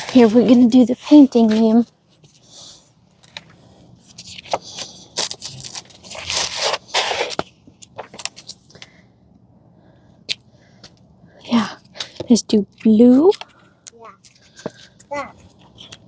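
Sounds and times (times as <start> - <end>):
rustling and scraping: 0.0 - 9.0, 10.8 - 16.0.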